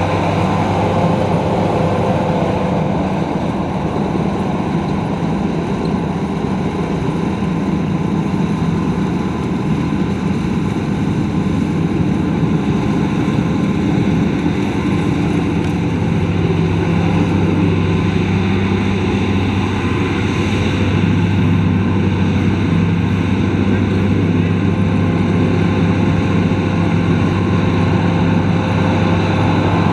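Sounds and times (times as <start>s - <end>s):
combine harvester engine hum: 0.0s - 29.9s.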